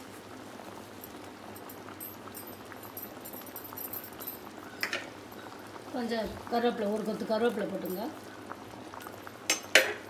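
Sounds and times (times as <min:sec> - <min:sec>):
gravy boiling in a pan: 0:00.0 - 0:10.0.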